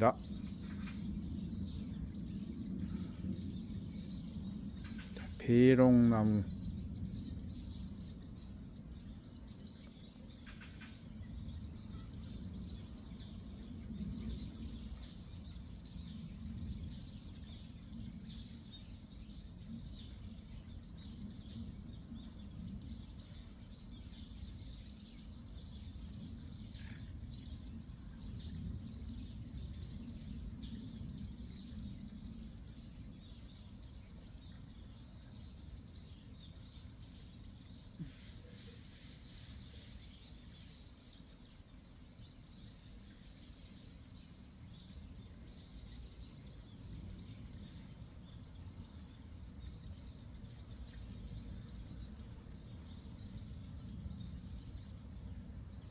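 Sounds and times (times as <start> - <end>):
low outdoor rumble: 0.0 - 55.9
songbirds chirping: 0.0 - 55.9.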